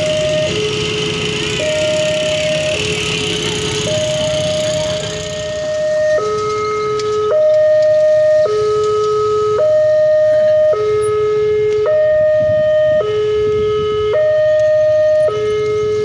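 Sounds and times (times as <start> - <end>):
two-tone warning siren: 0.0 - 16.0.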